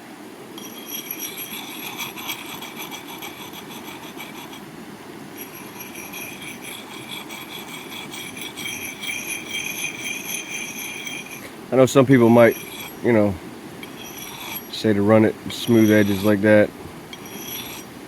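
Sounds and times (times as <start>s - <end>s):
blade ringing: 0.6s - 4.6s, 5.3s - 16.5s, 17.1s - 17.9s
sanding disc rasping on steel: 0.6s - 4.6s, 5.4s - 16.5s, 17.1s - 17.9s.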